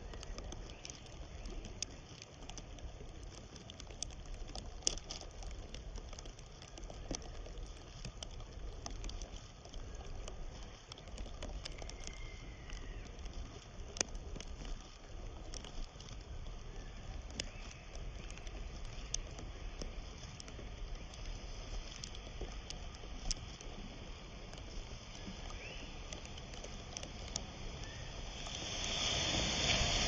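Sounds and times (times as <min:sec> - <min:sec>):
faint clicks: 0:00.0 - 0:30.0.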